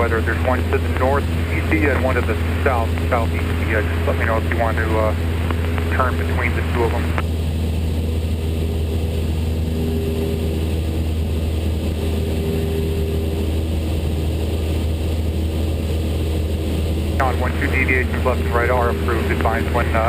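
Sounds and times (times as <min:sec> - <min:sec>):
propeller aircraft engine droning: 0:00.0 - 0:20.0.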